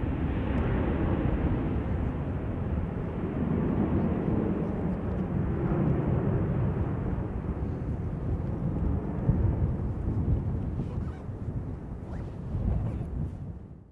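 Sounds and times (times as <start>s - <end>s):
jet engines rumbling: 0.0s - 13.7s.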